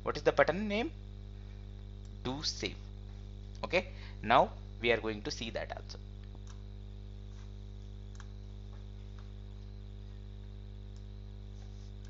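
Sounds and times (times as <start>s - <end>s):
electrical hum: 0.0s - 12.0s
faint high whine: 0.0s - 12.0s.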